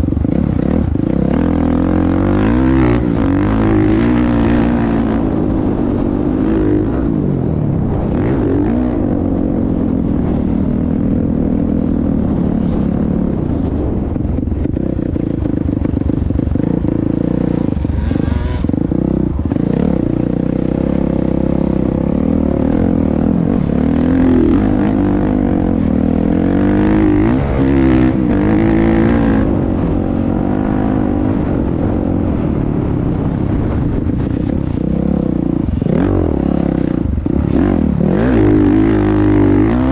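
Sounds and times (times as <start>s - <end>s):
dirt bike engine revving: 0.0s - 32.5s, 34.6s - 39.9s.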